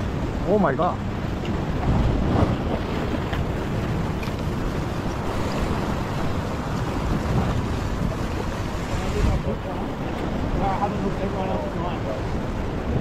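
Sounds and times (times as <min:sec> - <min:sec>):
ocean swell washing over rock: 0:00.0 - 0:13.0
wind noise on microphone: 0:00.0 - 0:13.0.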